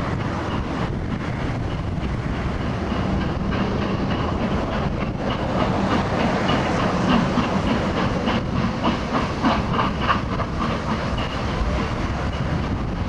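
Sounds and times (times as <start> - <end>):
steam train running: 0.0 - 13.0
wheels clattering over rail joints: 0.0 - 13.0.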